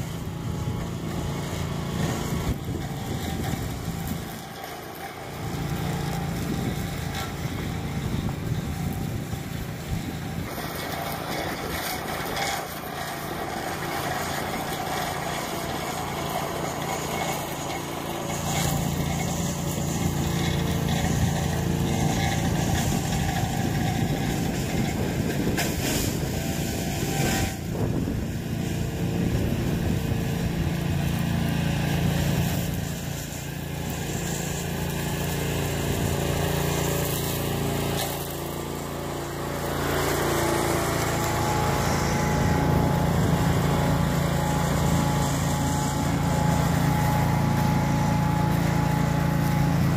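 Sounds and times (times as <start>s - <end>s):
small mower engine running: 0.0s - 49.9s.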